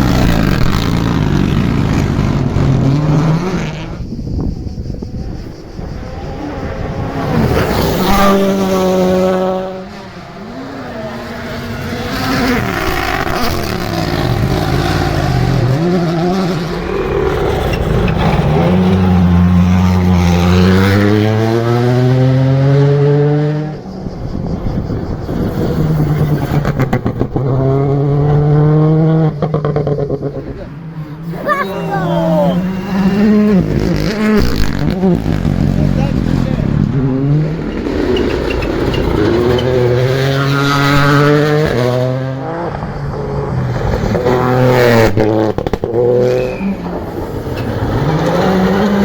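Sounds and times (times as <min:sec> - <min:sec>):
rally car engines accelerating: 0:00.0 - 0:49.0.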